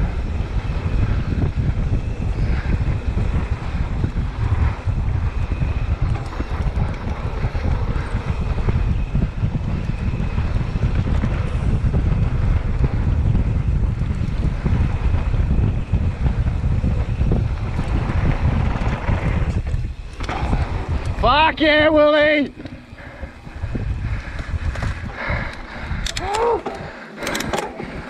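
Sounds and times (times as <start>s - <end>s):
bike tyres rumbling on dirt: 0.0s - 28.0s
wind rushing over microphone: 0.0s - 28.0s.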